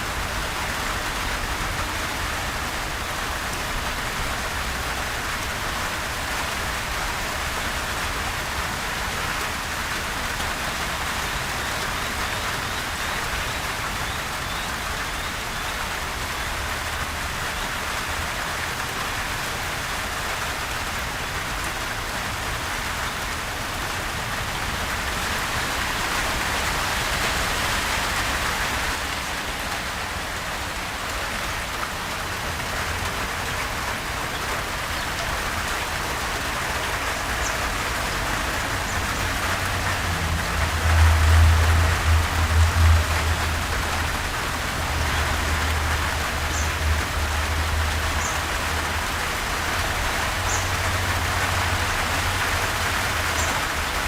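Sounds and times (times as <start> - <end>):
gentle steady rain: 0.0 - 54.0.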